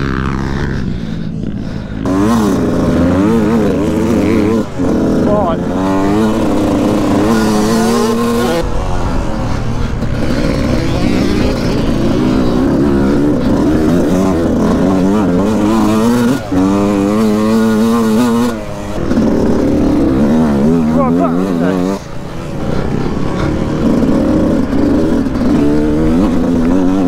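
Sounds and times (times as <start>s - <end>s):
motocross bike engine revving: 0.0s - 27.0s
wind and rough ground rumble: 0.0s - 27.0s.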